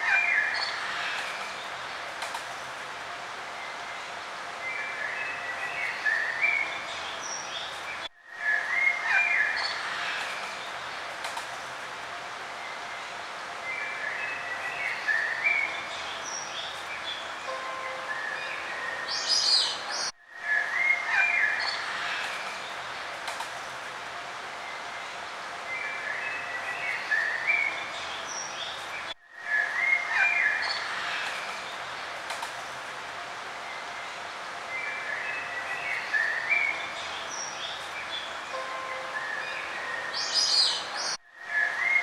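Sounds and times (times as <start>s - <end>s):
outdoor background hiss: 0.0s - 42.0s
songbirds chirping: 0.0s - 42.0s.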